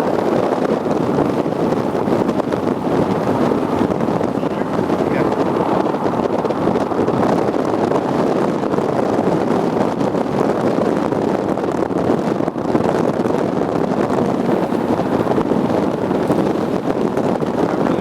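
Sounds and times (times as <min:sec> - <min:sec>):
moving car noise: 0:00.0 - 0:18.0
wind on microphone: 0:00.0 - 0:18.0.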